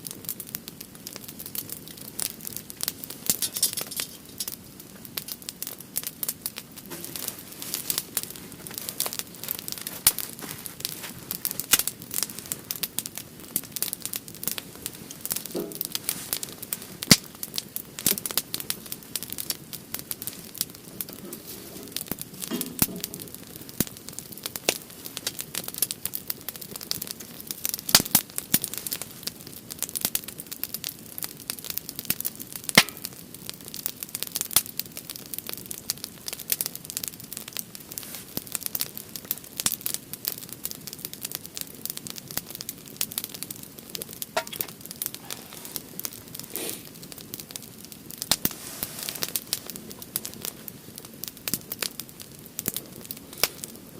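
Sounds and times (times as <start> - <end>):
campfire crackling and popping: 0.0 - 53.9
low fire hiss: 0.0 - 53.9.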